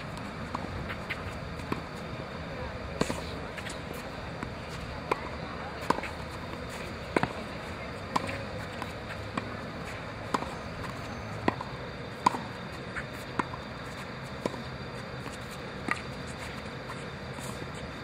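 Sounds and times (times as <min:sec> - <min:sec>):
steady low hiss: 0:00.0 - 0:18.0
tennis balls struck with rackets: 0:00.0 - 0:18.0.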